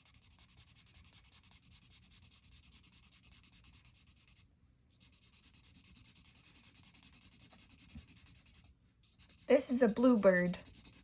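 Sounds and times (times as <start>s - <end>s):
marker rubbing on paper: 0.0s - 4.4s, 5.0s - 11.0s.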